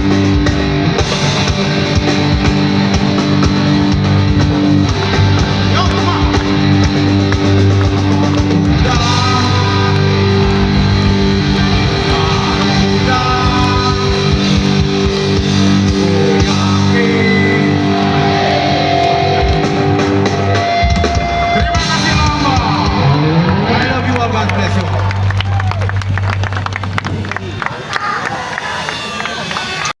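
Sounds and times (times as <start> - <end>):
electric guitar: 0.0 - 29.9
rock band playing: 0.0 - 29.9.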